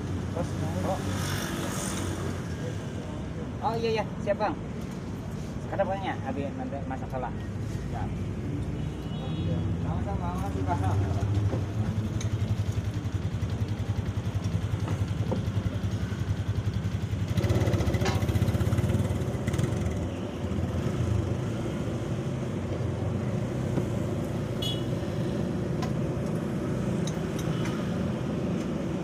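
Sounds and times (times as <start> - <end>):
traffic engine hum: 0.0 - 29.0.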